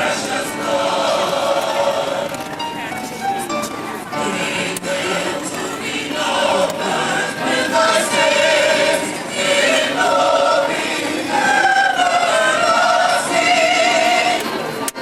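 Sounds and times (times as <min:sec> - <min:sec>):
group singing long notes: 0:00.0 - 0:02.6, 0:04.1 - 0:15.0.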